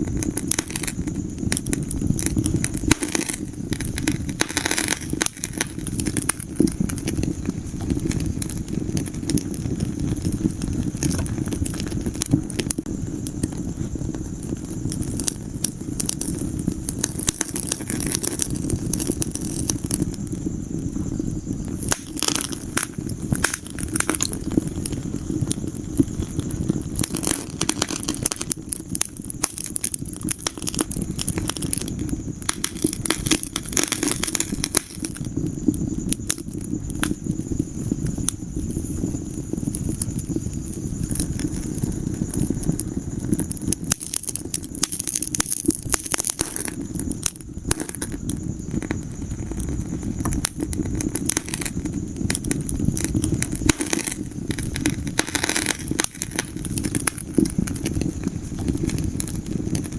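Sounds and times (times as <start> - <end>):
low rumble of flames: 0.0 - 59.9
sharp pops and snaps: 0.0 - 59.9
wood fire crackling: 0.0 - 59.9.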